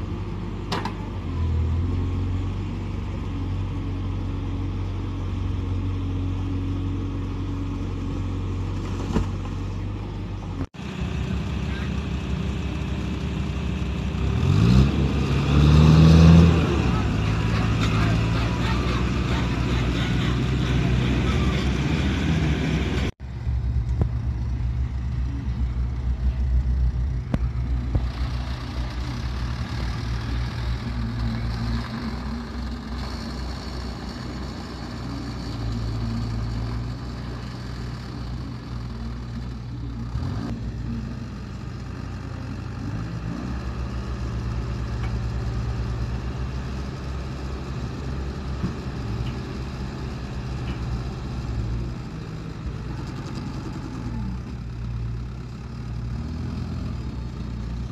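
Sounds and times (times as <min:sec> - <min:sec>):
diesel truck engine running: 0:00.0 - 0:57.9.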